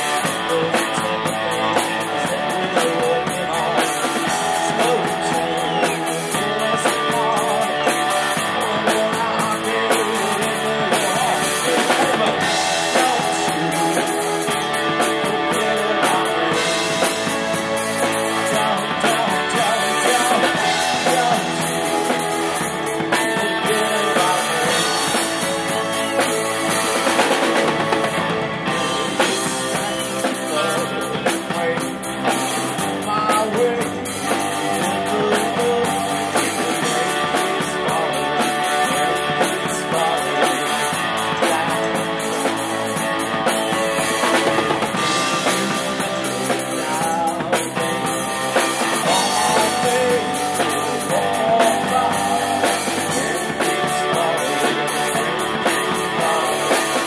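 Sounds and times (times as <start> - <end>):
drum kit steady beat: 0.0 - 57.0
live rock band playing: 0.0 - 57.0.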